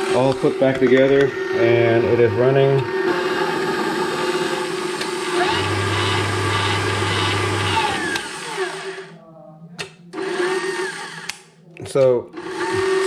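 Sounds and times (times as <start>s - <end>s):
stand mixer motor whirring: 0.0s - 9.1s, 10.2s - 11.4s, 12.4s - 13.0s.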